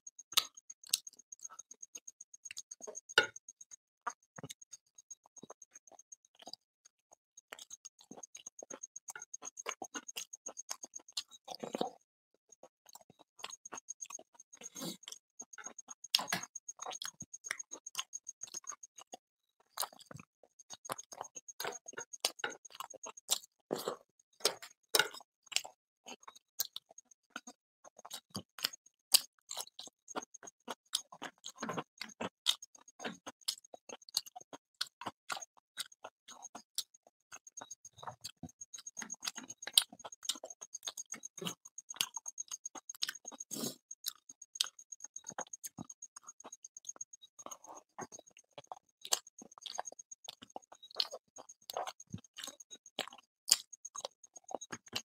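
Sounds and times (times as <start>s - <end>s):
wet chewing and lip-smacking: 0.1s - 55.0s.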